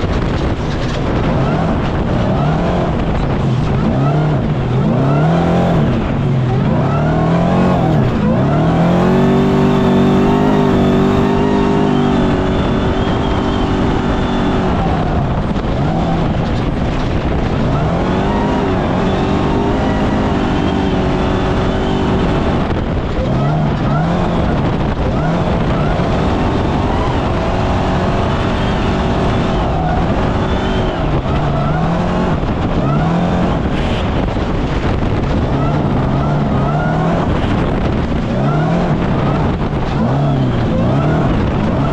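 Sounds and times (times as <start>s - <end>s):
race vehicle engine revving: 0.0s - 41.9s
wind and road noise: 0.0s - 41.9s.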